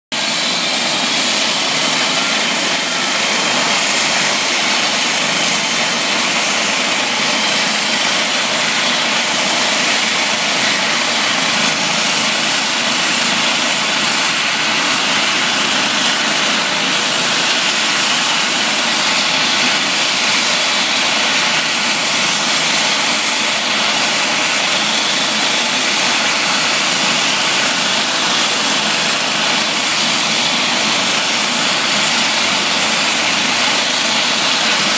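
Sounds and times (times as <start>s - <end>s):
helicopter idling: 0.1s - 34.9s
high turbine whistle: 0.2s - 34.9s.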